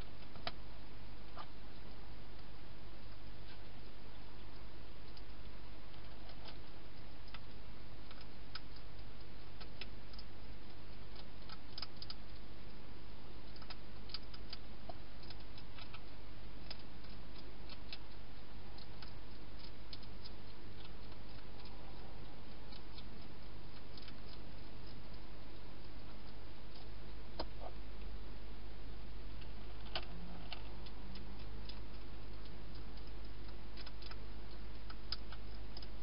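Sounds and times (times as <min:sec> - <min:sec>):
hedgehog crunching dry food: 0:01.3 - 0:28.2, 0:29.3 - 0:36.0.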